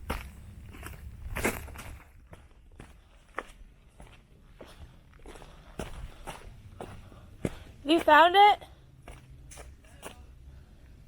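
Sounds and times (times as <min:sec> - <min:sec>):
footsteps scuffing: 0:00.0 - 0:10.3.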